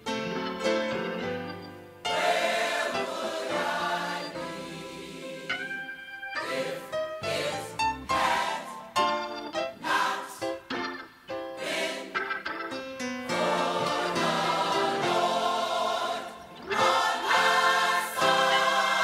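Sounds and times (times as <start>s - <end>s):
gospel choir singing: 0.9s - 12.4s, 13.2s - 19.0s.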